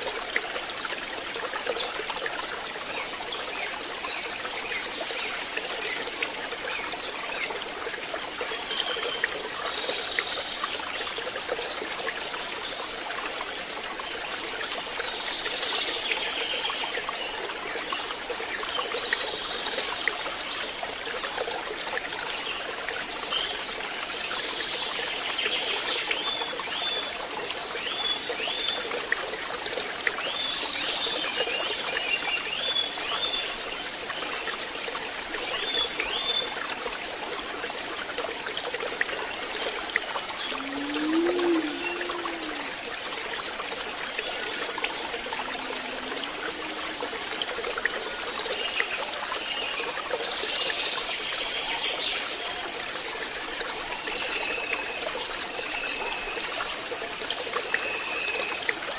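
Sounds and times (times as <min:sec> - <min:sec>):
pond water trickling: 0:00.0 - 0:58.9.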